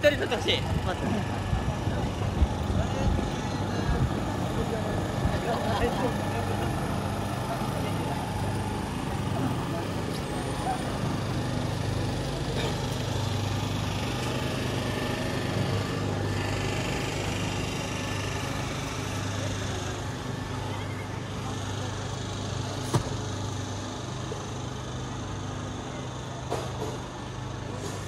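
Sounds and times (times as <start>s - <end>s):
city noise: 0.0s - 28.0s
vehicle engine running: 0.0s - 28.0s.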